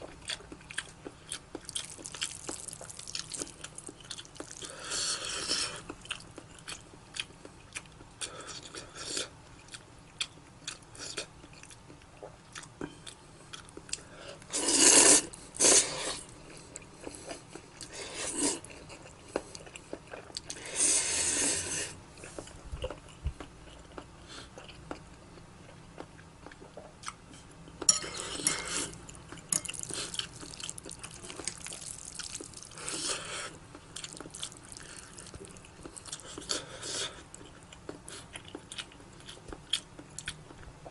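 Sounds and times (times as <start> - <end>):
chewing noodles: 0.0 - 25.0, 26.0 - 40.9.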